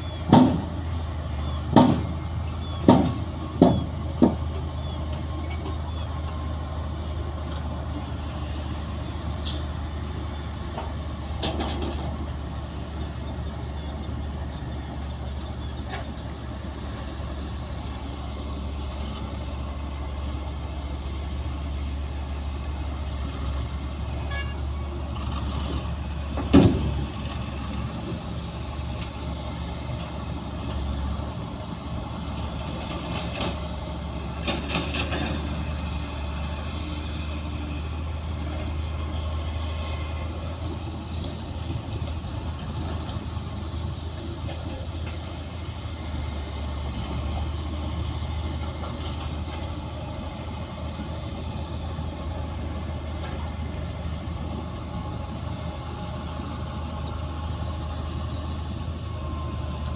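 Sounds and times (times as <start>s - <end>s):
diesel earthmoving machinery droning: 0.0s - 59.9s.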